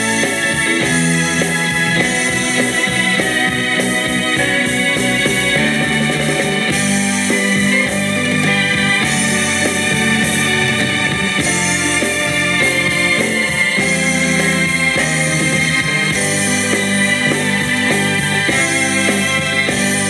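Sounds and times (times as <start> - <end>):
bass: 0.0 - 20.0
drums: 0.0 - 20.0
guitar: 0.0 - 20.0
keyboards: 0.0 - 20.0.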